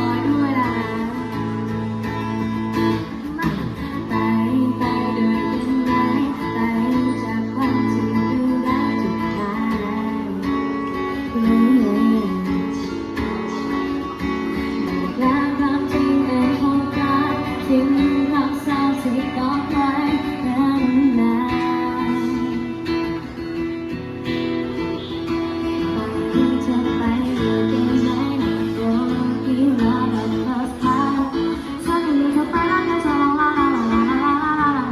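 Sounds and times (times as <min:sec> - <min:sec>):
strummed acoustic guitar: 0:00.0 - 0:34.9
person singing: 0:03.0 - 0:23.2, 0:25.0 - 0:34.9.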